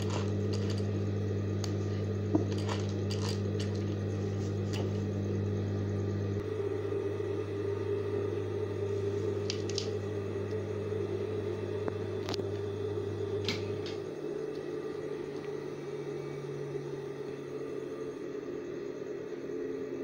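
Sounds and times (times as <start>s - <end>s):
electric motor humming: 0.0s - 18.3s.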